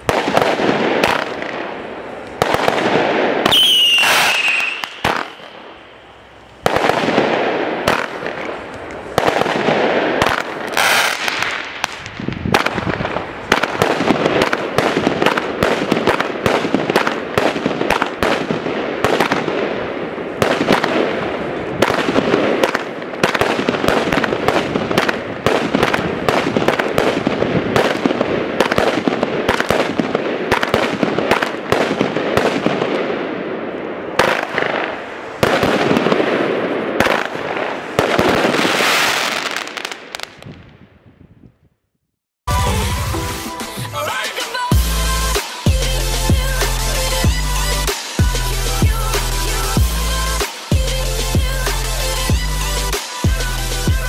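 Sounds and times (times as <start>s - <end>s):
firework shots and bangs: 0.0s - 5.8s, 6.6s - 40.8s, 44.1s - 54.0s
firework crackling: 0.0s - 33.4s, 34.0s - 40.8s, 42.5s - 54.0s.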